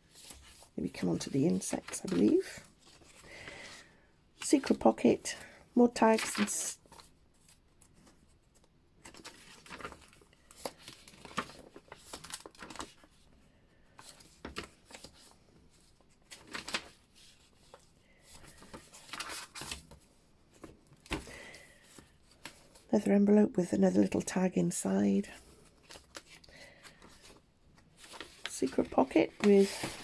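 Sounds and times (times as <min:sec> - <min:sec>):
paper and card rustling: 0:00.1 - 0:03.8, 0:05.8 - 0:13.3, 0:13.9 - 0:22.9, 0:25.1 - 0:30.0.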